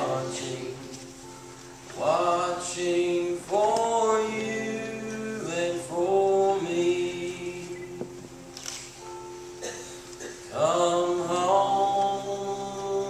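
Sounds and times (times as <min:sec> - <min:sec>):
person singing slow melody: 0:00.0 - 0:13.0
soft instrumental accompaniment: 0:00.0 - 0:13.0.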